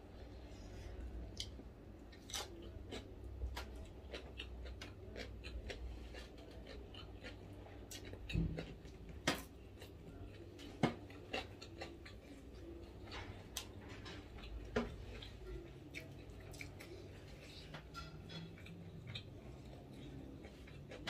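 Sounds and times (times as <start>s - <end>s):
person chewing crunchy food: 1.3s - 21.0s.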